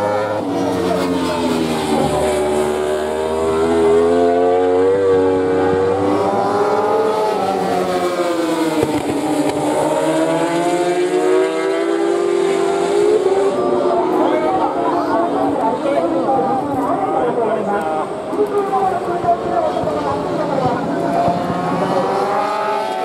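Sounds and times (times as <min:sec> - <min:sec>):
superbike engines racing: 0:00.0 - 0:23.0.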